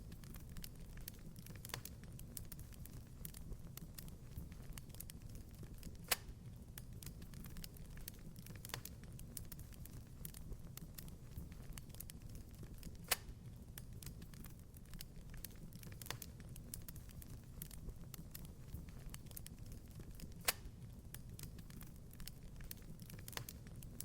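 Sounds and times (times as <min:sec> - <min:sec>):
wood fire crackling: 0:00.0 - 0:24.0
fire pops: 0:00.1 - 0:24.0.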